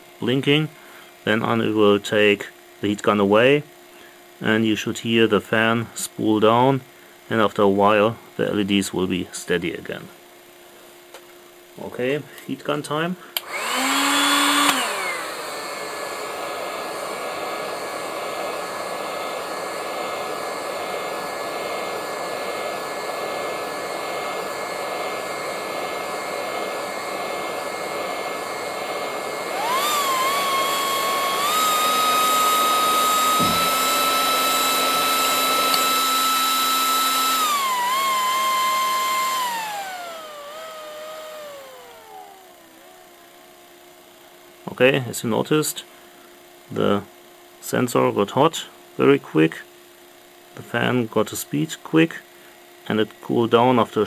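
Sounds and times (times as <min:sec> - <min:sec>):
power supply fan whine: 0:00.0 - 0:54.0.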